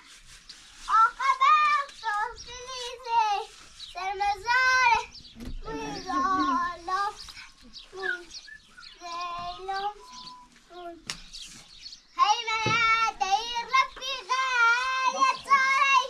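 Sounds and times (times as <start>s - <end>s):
child singing in a high voice: 0.9s - 11.0s, 12.2s - 16.0s.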